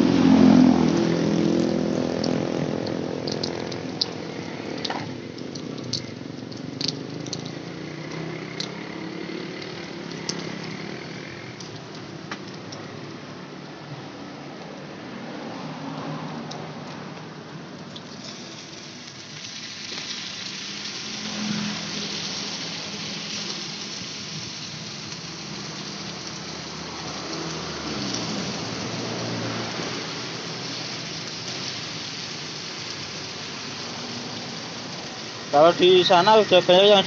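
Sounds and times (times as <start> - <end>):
batter sizzling in hot pan: 0.1 - 12.5, 17.8 - 37.0.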